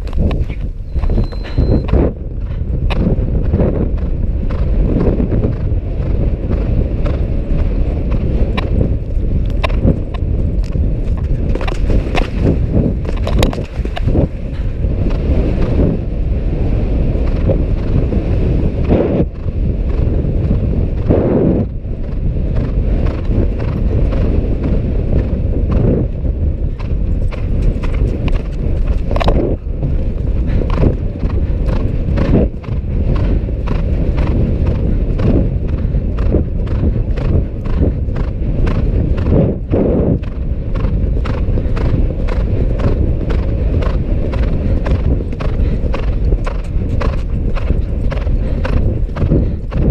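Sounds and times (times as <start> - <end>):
horse hoofbeats on grass: 0.0 - 16.0, 22.0 - 49.9
wind on microphone: 0.0 - 49.9.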